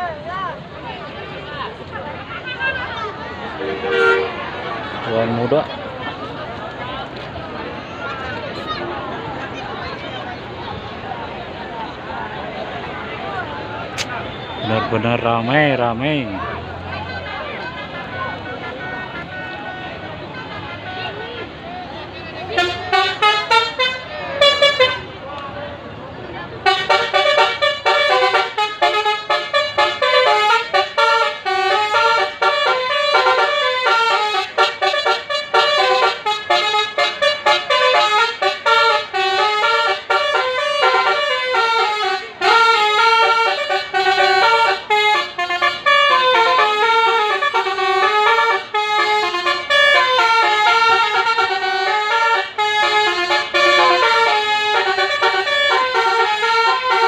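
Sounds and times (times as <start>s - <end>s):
multi-tone bus horns playing melody: 2.3s - 6.3s, 14.0s - 25.2s, 26.5s - 57.0s.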